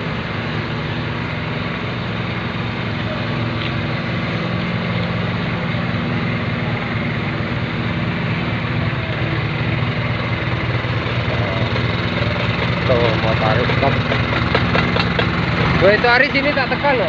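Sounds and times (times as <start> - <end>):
machine engine running: 1.1 - 17.0.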